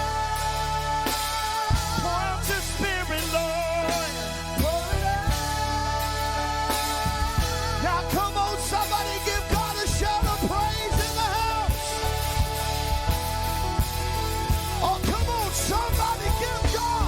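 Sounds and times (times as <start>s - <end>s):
bass: 0.0s - 17.0s
drums: 0.0s - 17.0s
sliding melodic line: 0.0s - 17.0s.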